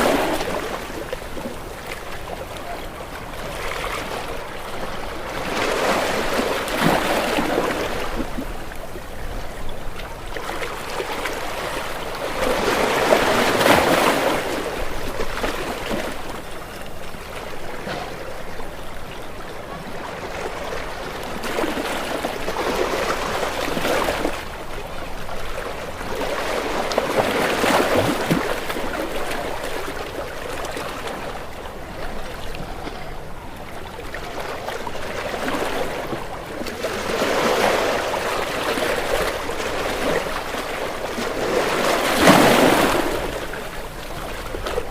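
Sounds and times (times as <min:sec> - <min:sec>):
ocean waves breaking against rocks: 0:00.0 - 0:44.9.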